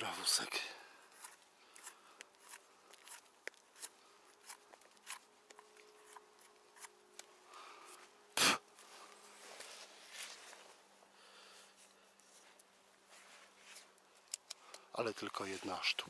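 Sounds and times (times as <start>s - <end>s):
mushroom handled in forest litter: 0.0s - 14.3s, 14.9s - 16.0s.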